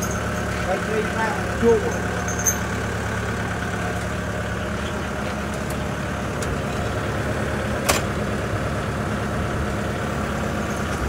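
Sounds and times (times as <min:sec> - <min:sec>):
diesel machinery idling: 0:00.0 - 0:11.0.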